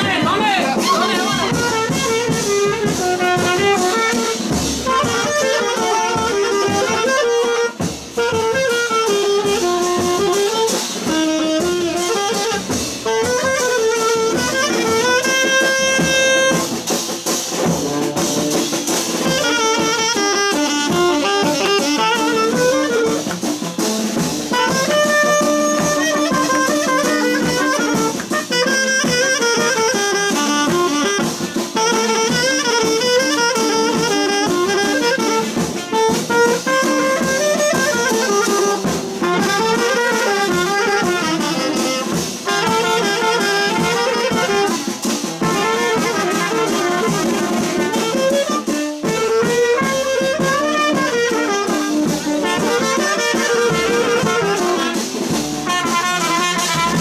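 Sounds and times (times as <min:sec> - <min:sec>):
drums: 0:00.0 - 0:57.0
saxophone playing dance tune: 0:00.0 - 0:57.0.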